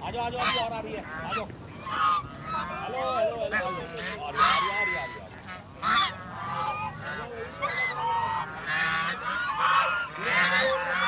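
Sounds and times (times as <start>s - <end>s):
waterfowl flock calling: 0.2s - 11.0s.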